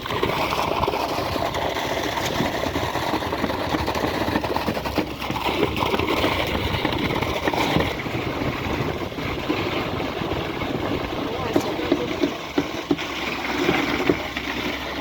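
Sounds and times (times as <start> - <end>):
concrete pump and machinery running: 0.0 - 15.0.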